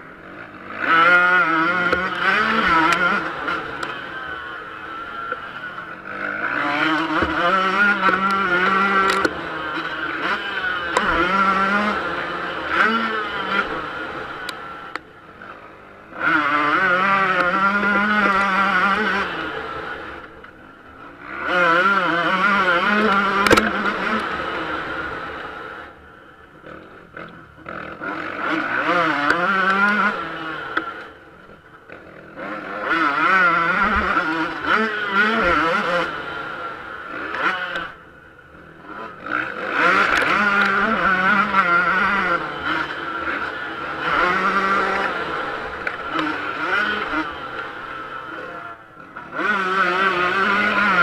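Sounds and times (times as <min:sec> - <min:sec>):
two-stroke motocross engine revving: 0:00.0 - 0:51.0.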